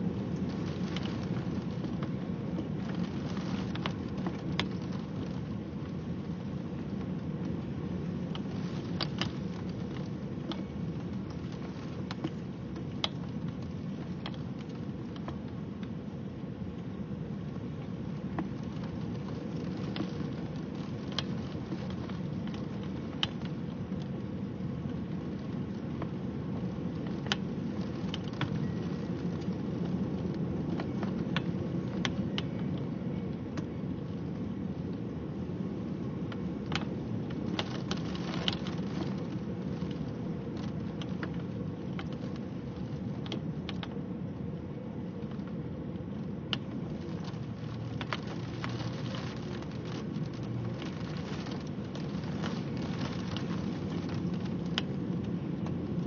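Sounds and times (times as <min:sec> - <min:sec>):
sharp raindrop ticks: 0:00.0 - 0:56.0
steady low rushing rain: 0:00.0 - 0:56.0.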